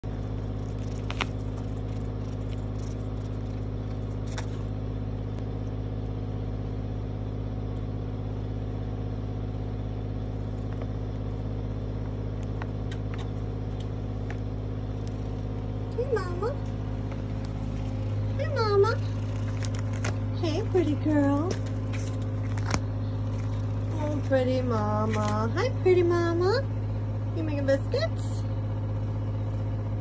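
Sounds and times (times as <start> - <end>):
motor humming: 0.0 - 30.0.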